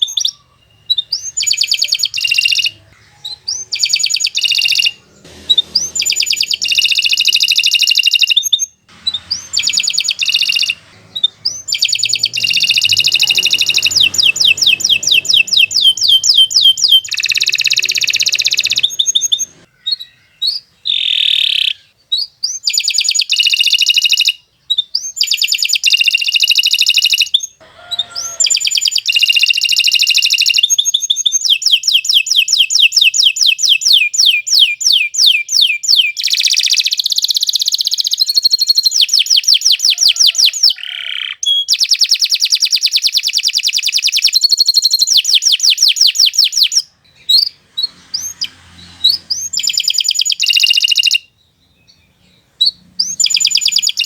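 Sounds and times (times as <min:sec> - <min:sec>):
canary trilling: 0:00.0 - 0:54.0.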